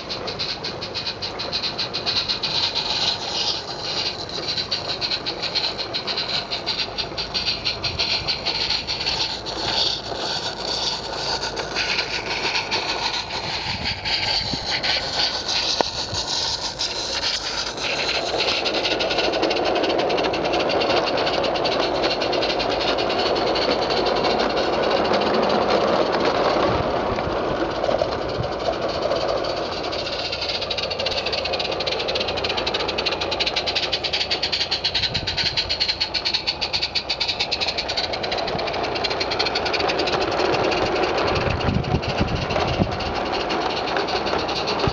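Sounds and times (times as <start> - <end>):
steam locomotive hissing exhaust: 0.0 - 44.9
train rattling over track: 0.0 - 44.9.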